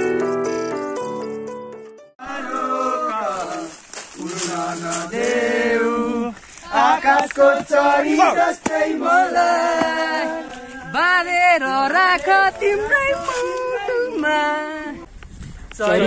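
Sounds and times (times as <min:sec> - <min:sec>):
men singing and chanting: 0:02.2 - 0:15.1, 0:15.8 - 0:16.0.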